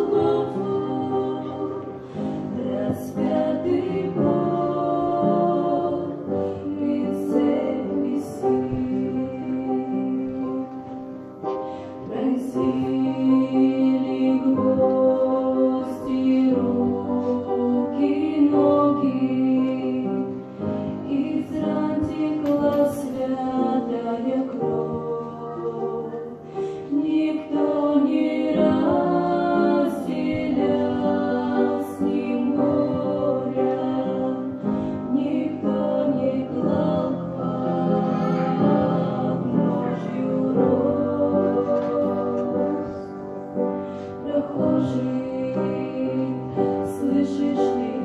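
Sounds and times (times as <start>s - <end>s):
group of voices singing: 0.0s - 48.0s
instrumental accompaniment: 0.0s - 48.0s.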